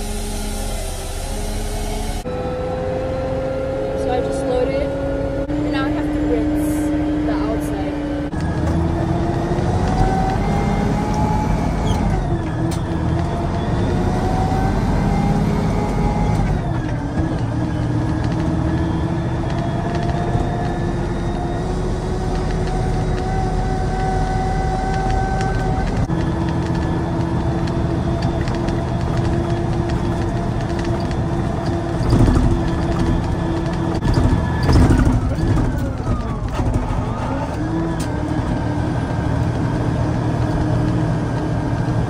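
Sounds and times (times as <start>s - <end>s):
truck diesel engine rumbling: 0.0s - 42.0s.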